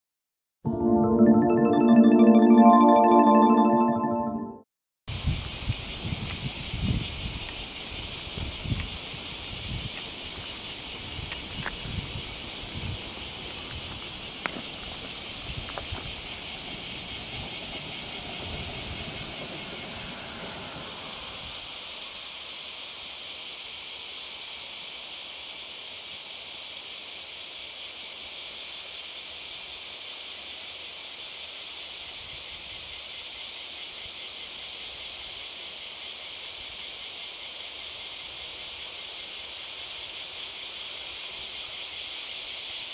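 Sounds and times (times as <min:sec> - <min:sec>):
cicadas buzzing: 0:05.5 - 0:42.9.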